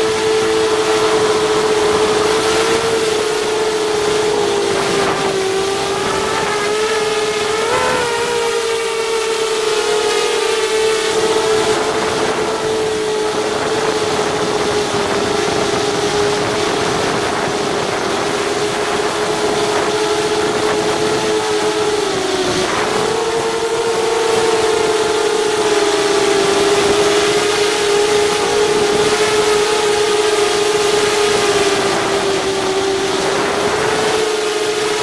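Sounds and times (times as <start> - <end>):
drone motors and propellers whining: 0.0 - 35.0.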